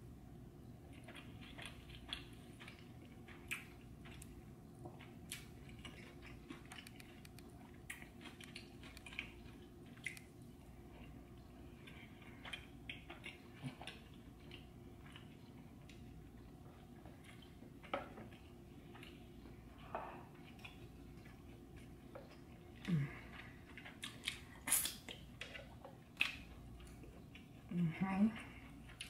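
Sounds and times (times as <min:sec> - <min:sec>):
low steady hum: 0:00.0 - 0:29.0
person chewing: 0:00.8 - 0:27.7, 0:28.4 - 0:29.0.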